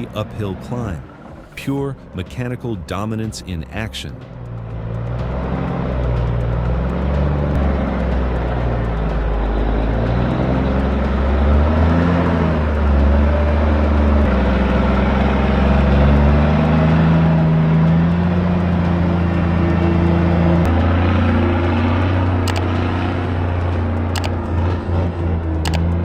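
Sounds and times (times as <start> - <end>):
truck engine labouring: 0.0 - 26.0.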